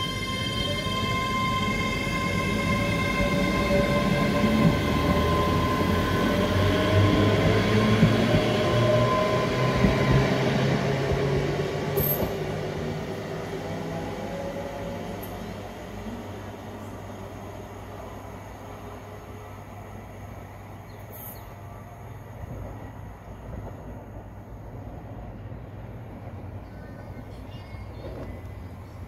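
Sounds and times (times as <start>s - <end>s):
train multi-tone whine: 0.0s - 29.0s
train wheels rumbling on rail: 0.0s - 29.0s.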